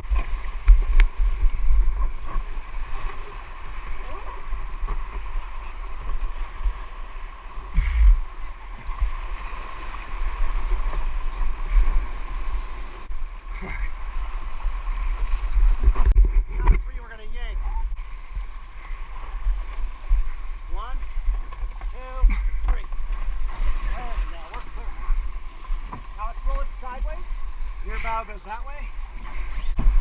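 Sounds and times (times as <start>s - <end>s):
sea water sloshing and splashing: 0.0s - 30.0s
wind rumbling on microphone: 0.0s - 30.0s.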